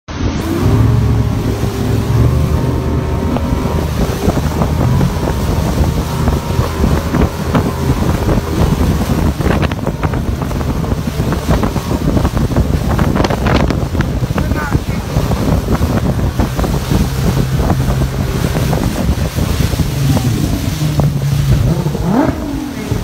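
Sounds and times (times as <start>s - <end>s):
boat motor: 0.1s - 23.0s
water splashing against hull: 0.1s - 23.0s
wind buffeting microphone: 0.3s - 23.0s.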